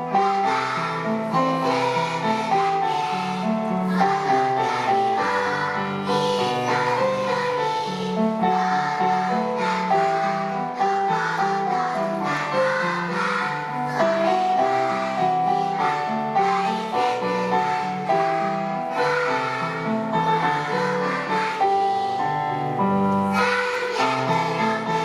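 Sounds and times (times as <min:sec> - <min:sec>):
children singing: 0:00.0 - 0:22.5, 0:23.1 - 0:25.0
accompanying music: 0:00.0 - 0:25.0.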